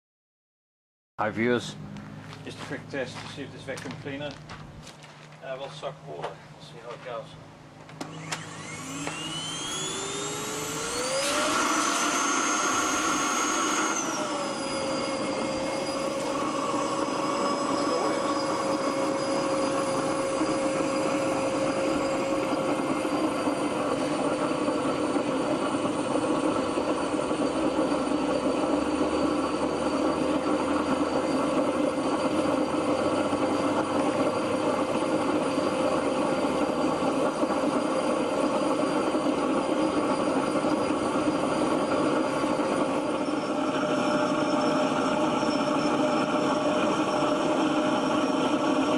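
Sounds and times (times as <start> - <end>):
vacuum cleaner motor whine: 7.9 - 48.9.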